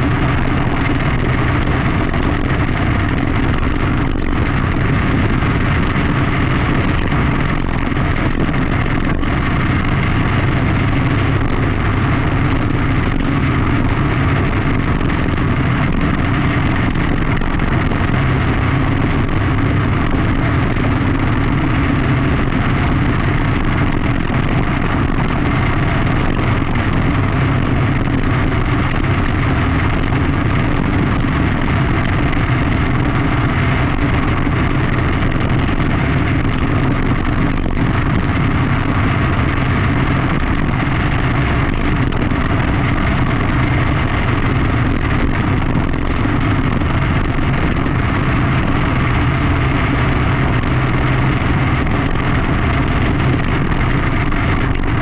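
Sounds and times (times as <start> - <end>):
racing kart engine running hard: 0.0 - 55.0
rushing noise: 0.0 - 55.0.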